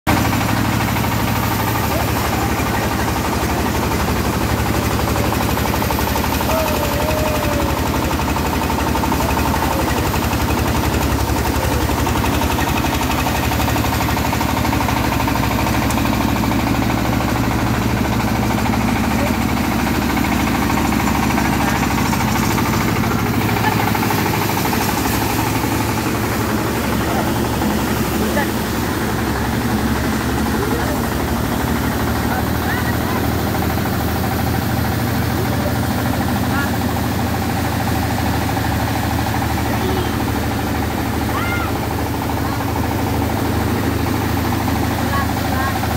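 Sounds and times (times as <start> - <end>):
diesel engine pounding: 0.0 - 45.9
threshing machine running: 0.1 - 45.9.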